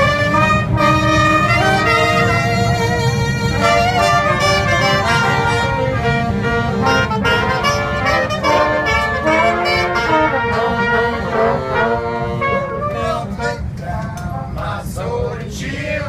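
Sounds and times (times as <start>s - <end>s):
brass band playing: 0.0s - 13.8s.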